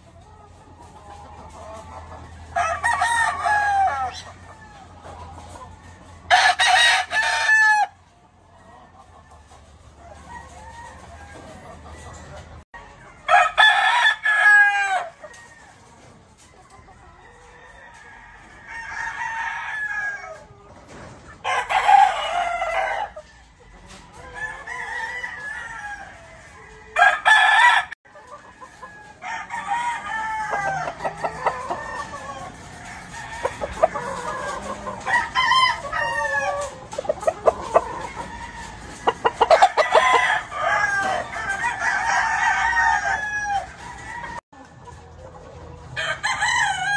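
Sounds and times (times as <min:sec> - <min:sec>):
chickens clucking: 0:00.0 - 0:46.9
roosters crowing: 0:00.9 - 0:44.8, 0:45.8 - 0:46.9.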